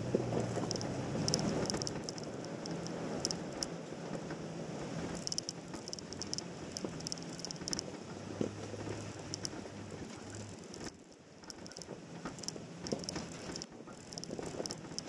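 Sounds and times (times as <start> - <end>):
tyres crunching on gravel: 0.0 - 4.4, 5.1 - 15.0
gravel clicks: 0.0 - 15.0
low engine hum: 0.0 - 15.0.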